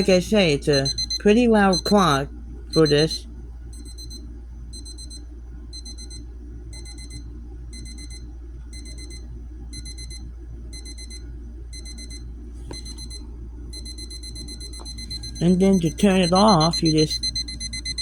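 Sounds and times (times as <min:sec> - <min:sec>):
digital alarm clock beeping: 0:00.0 - 0:03.2, 0:03.8 - 0:04.2, 0:04.8 - 0:05.2, 0:05.8 - 0:13.2, 0:13.8 - 0:18.0.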